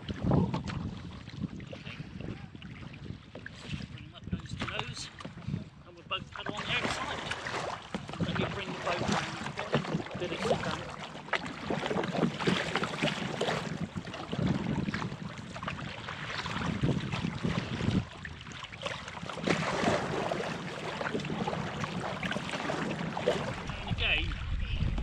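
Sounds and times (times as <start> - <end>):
paddle strokes splashing: 0.0 - 5.6, 6.2 - 25.0
water lapping against canoe hulls: 0.0 - 25.0.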